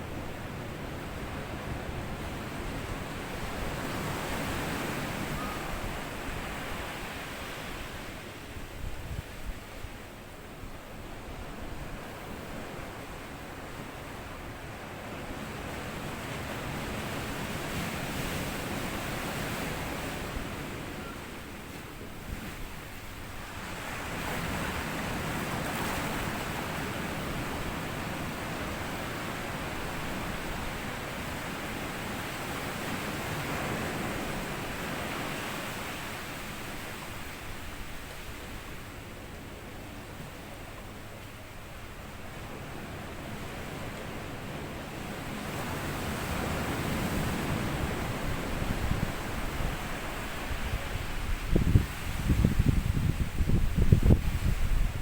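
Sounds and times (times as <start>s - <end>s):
waves washing onto sandy beach: 10.9s - 55.0s.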